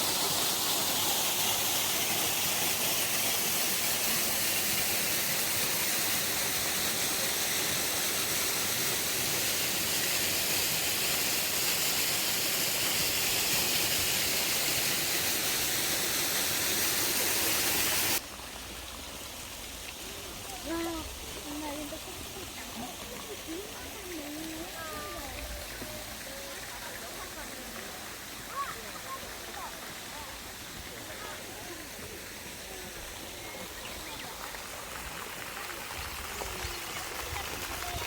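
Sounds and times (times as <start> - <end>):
falling water rushing: 0.0 - 38.0.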